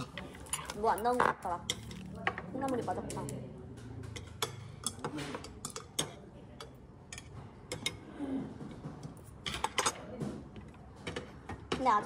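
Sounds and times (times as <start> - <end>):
utensils clinking against dishes: 0.0 - 10.1.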